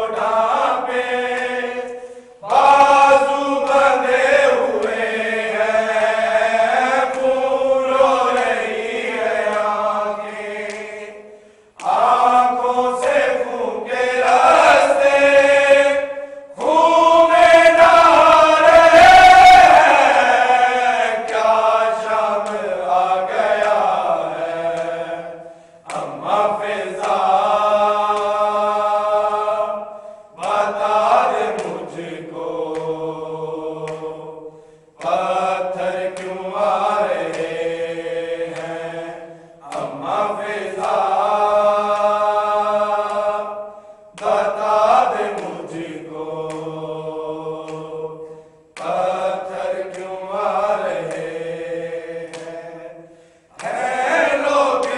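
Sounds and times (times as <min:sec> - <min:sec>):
men chanting in unison: 0:00.0 - 0:54.9.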